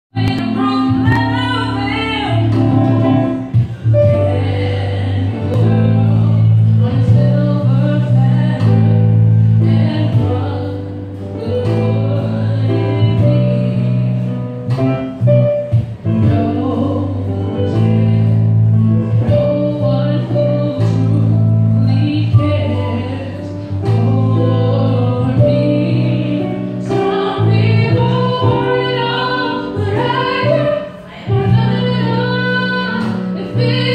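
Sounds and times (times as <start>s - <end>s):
deep bass line: 0.1s - 33.9s
electric keyboard chords: 0.1s - 33.9s
guitar: 0.1s - 33.9s
woman singing: 0.2s - 33.9s.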